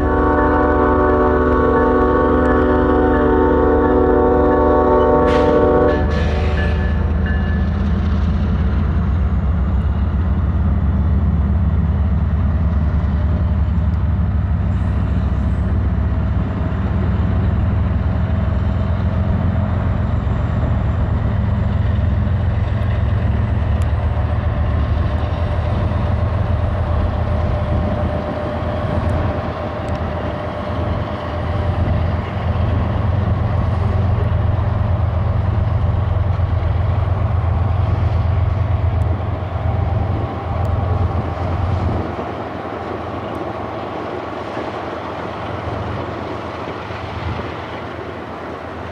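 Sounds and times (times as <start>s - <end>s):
diesel locomotive engines droning: 0.0s - 48.9s.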